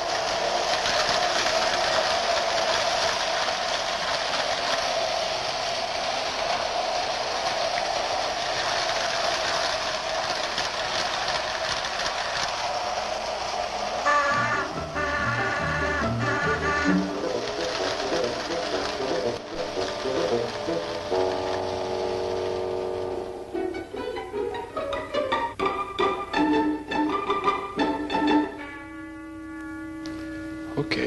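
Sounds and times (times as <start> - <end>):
toy train running on track: 0.0 - 28.8.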